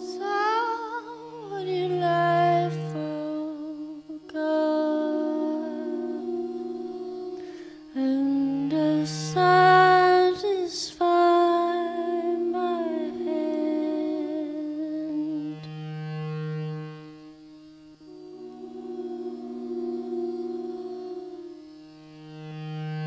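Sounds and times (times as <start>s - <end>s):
woman singing wordless tones: 0.0s - 15.7s, 18.1s - 21.7s
electronic feedback drones: 0.0s - 23.0s.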